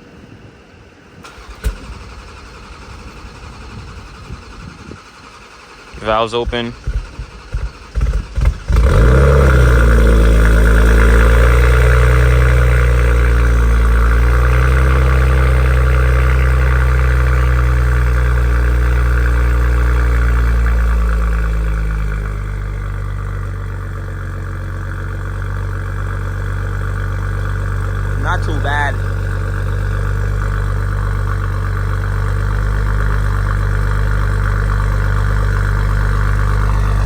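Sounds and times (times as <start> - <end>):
car engine idling: 0.0 - 37.0
starter motor cranking: 1.2 - 37.0.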